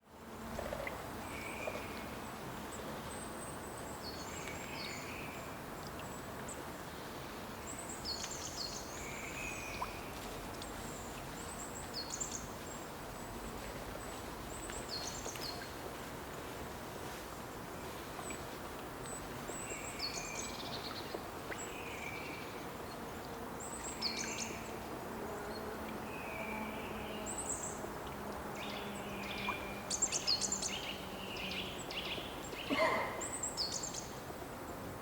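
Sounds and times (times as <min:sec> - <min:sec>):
songbirds chirping: 0:00.0 - 0:34.9
steady background hiss: 0:00.1 - 0:35.0.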